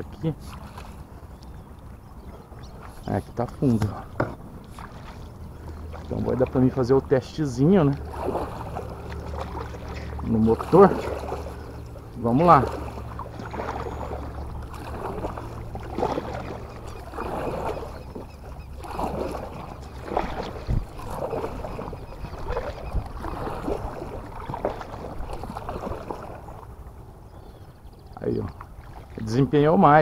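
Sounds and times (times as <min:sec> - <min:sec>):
paddle strokes swishing through water: 0:00.0 - 0:29.6.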